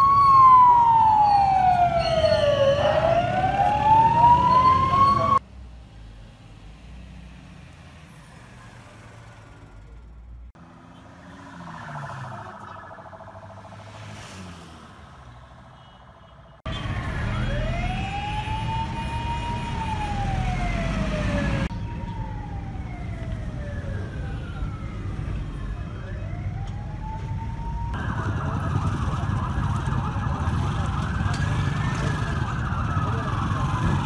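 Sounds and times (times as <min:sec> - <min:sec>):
fast-warbling siren: 0:00.0 - 0:05.4, 0:11.3 - 0:16.2, 0:16.9 - 0:34.0
police siren wailing: 0:00.0 - 0:05.4, 0:11.3 - 0:34.0.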